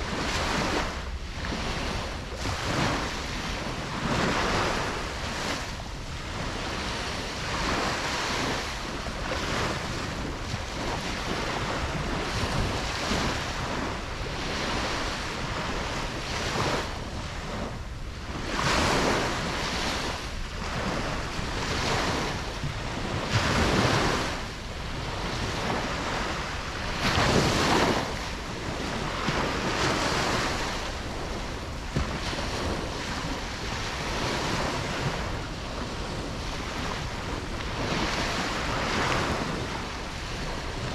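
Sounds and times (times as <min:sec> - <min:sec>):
ocean waves breaking: 0:00.0 - 0:40.9
wind buffeting microphone: 0:00.0 - 0:40.9.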